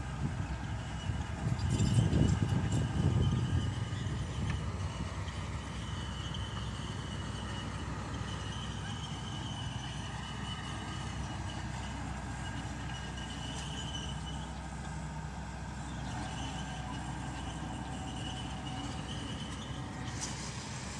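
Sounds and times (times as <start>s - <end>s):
bulldozer diesel engine running: 0.0s - 20.9s
thin high squeal: 0.9s - 4.3s, 5.7s - 14.6s, 16.0s - 20.9s.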